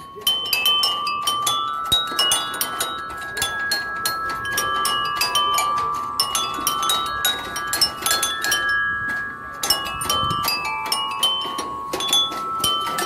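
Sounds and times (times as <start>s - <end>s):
chimes ringing: 0.0s - 13.0s.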